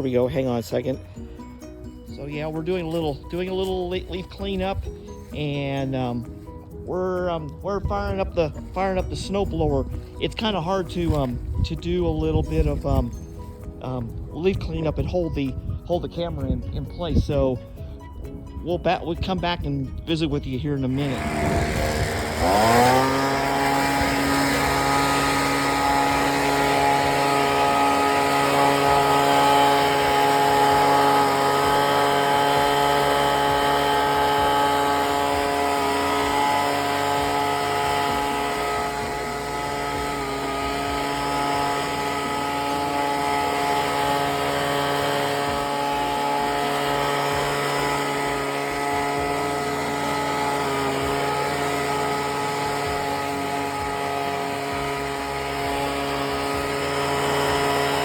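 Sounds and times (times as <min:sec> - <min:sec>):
small gasoline engine revving: 0:00.0 - 0:15.1, 0:18.8 - 0:58.0.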